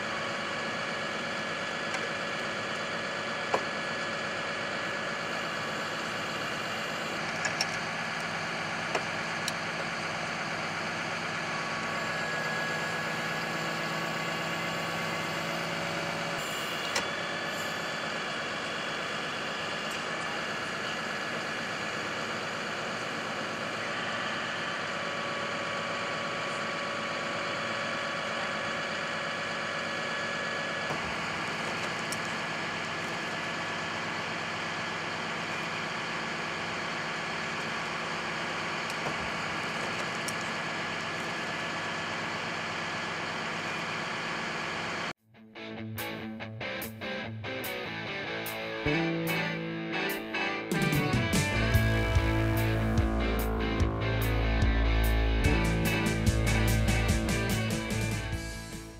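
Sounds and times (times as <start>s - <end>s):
truck engine idling: 0.0s - 45.1s, 50.7s - 58.9s.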